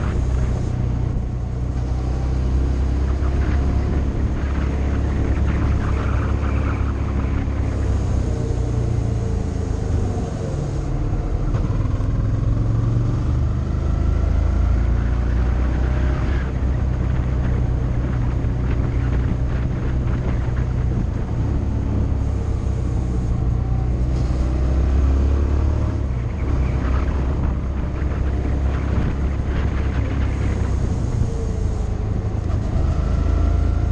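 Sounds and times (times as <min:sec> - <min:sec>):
motorcycle engine accelerating: 0:00.0 - 0:33.9
road noise: 0:00.0 - 0:33.9
wind noise: 0:00.0 - 0:33.9.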